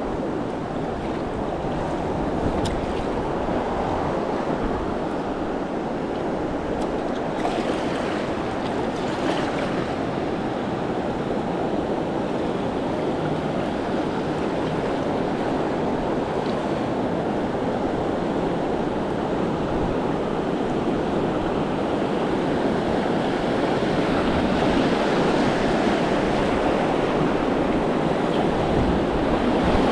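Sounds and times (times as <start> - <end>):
river water rushing through rapids: 0.0 - 29.9.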